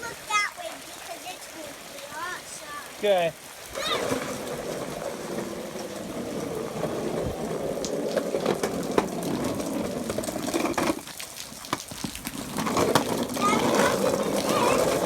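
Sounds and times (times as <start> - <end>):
water splashing and rushing: 0.0 - 15.0.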